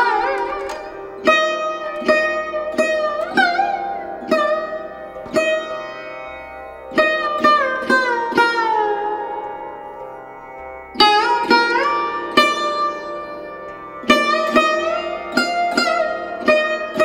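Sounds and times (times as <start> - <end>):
plucked string instrument notes: 0.0 - 17.0.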